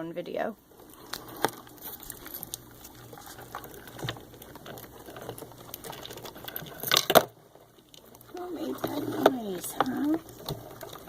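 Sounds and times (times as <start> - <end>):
crabs clicking and tapping: 0.8 - 11.0.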